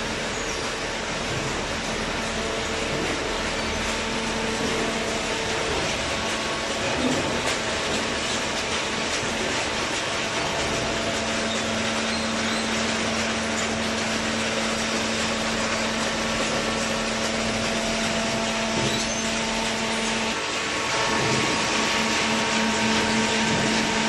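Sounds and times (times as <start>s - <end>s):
baler machine drone: 0.0s - 24.0s
constant machine hum: 0.0s - 24.0s.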